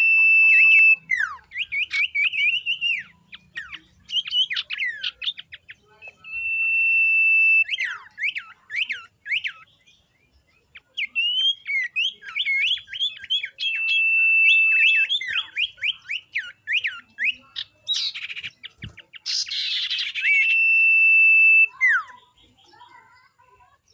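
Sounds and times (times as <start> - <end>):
bird whistling and chirping: 0.0 - 10.0, 10.6 - 22.3
harsh rasping bird chatter: 0.0 - 23.9.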